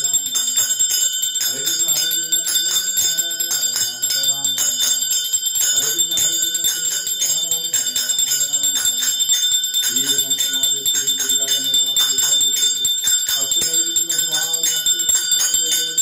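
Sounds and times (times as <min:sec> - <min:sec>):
brass hand bell ringing: 0:00.0 - 0:16.0.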